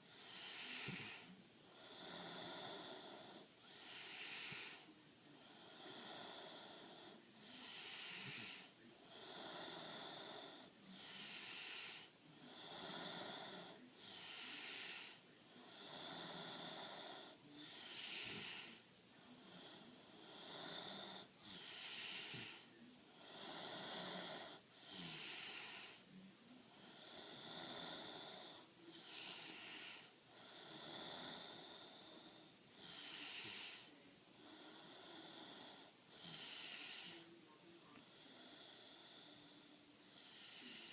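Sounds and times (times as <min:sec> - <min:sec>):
girl snoring: 0:00.0 - 0:18.8, 0:19.4 - 0:22.6, 0:23.2 - 0:26.0, 0:26.8 - 0:37.2.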